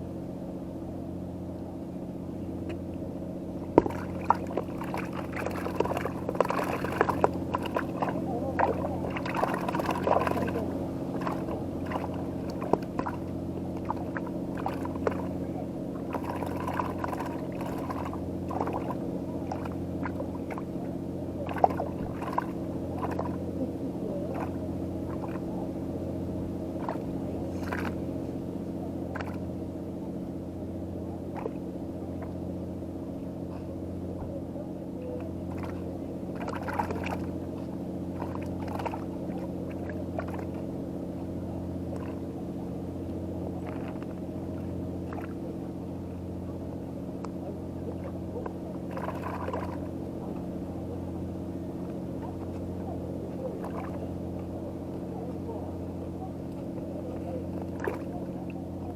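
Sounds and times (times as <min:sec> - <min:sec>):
engine droning: 0:00.0 - 0:58.9.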